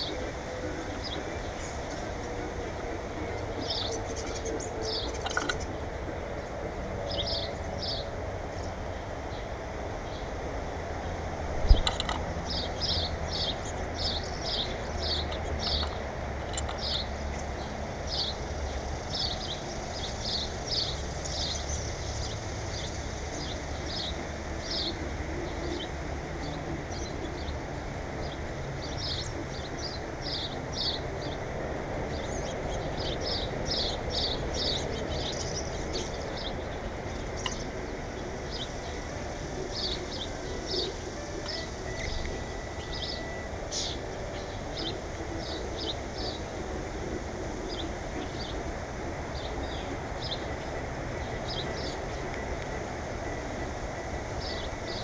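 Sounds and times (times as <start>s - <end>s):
small birds chirping: 0.0s - 10.5s, 11.6s - 55.0s.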